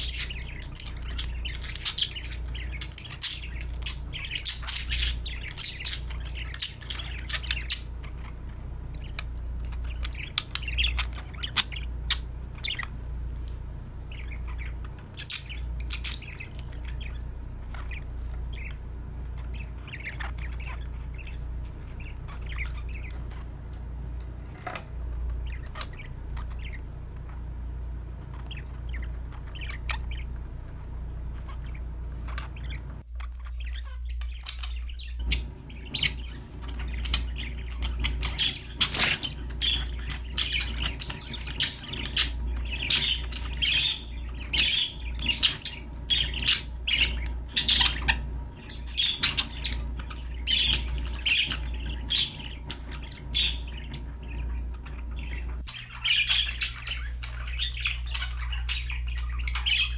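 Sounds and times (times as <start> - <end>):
budgerigars chirping and squawking: 0.0 - 59.9
steady low hum: 0.0 - 59.9.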